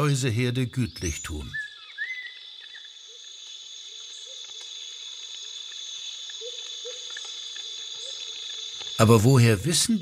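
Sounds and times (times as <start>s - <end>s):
insect chorus shrilling: 0.0s - 10.0s.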